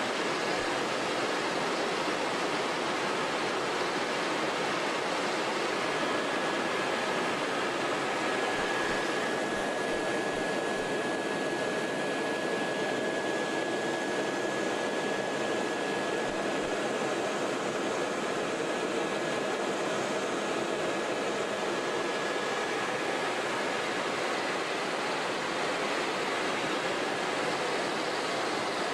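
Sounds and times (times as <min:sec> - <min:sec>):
faint high whine: 0:00.0 - 0:28.9
helicopter engine and rotor noise: 0:00.0 - 0:28.9.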